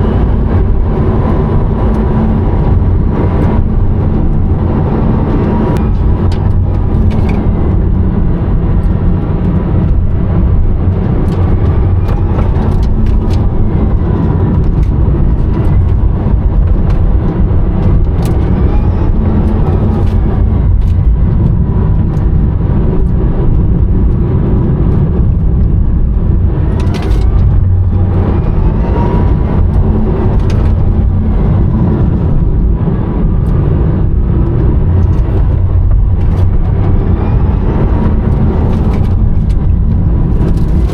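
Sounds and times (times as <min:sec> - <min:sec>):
road and tyre rumble: 0:00.0 - 0:40.9.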